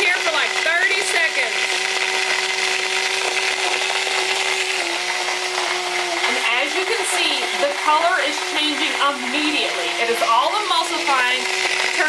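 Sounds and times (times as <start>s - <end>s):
immersion blender motor running: 0.0s - 12.0s.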